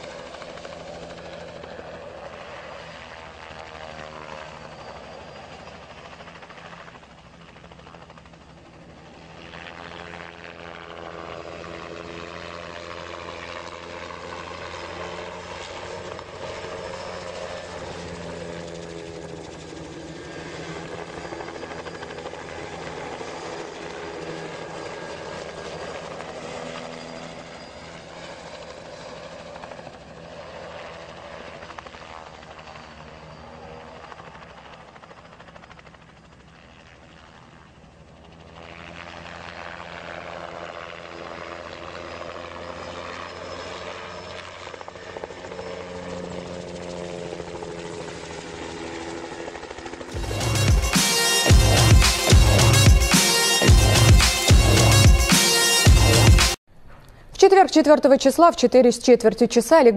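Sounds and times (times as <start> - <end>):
helicopter flying overhead: 0.0 - 56.6.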